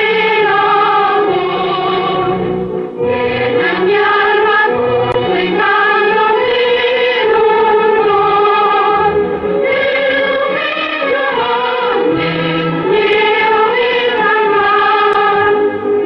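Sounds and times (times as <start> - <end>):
orchestral waltz music: 0.1 - 16.0.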